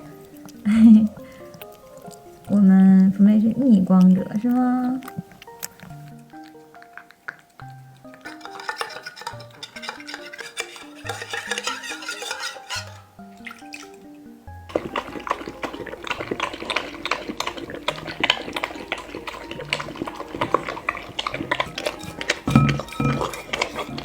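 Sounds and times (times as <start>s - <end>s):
background music: 0.0s - 24.0s
cat licking food dish: 0.1s - 13.9s, 14.7s - 24.0s.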